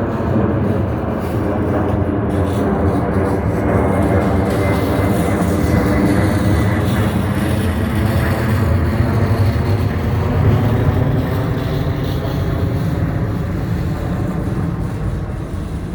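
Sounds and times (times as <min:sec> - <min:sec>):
jet engines at takeoff thrust: 0:00.0 - 0:15.9.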